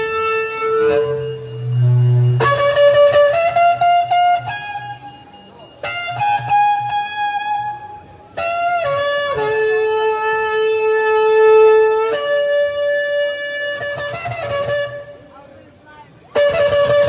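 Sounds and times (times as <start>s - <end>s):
shofar blowing held notes: 0.0s - 15.2s, 16.4s - 17.0s.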